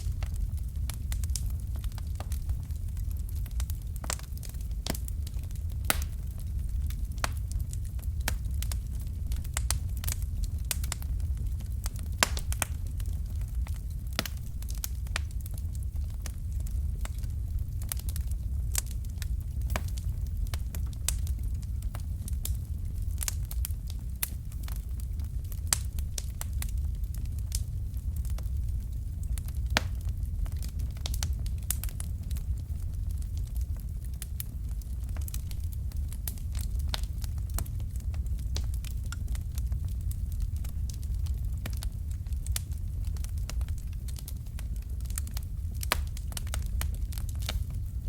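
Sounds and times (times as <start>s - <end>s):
low rumble of flames: 0.0s - 48.0s
wood fire crackling and popping: 0.0s - 48.0s.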